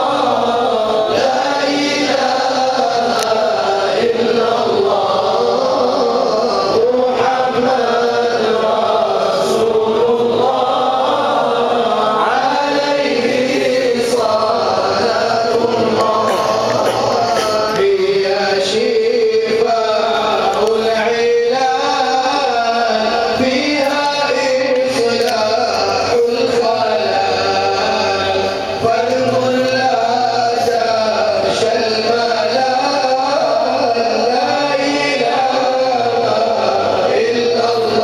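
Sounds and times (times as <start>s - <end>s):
men chanting together: 0.0s - 38.0s.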